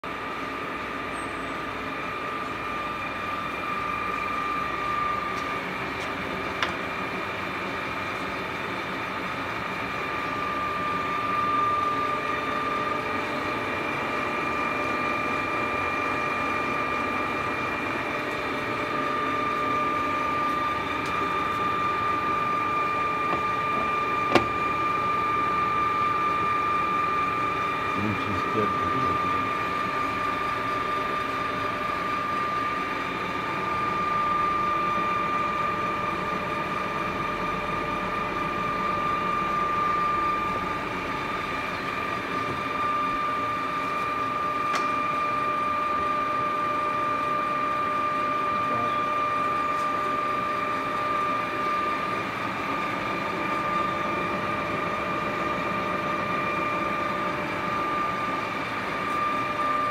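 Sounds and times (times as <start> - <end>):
lathe running with high whine: 0.0 - 59.9.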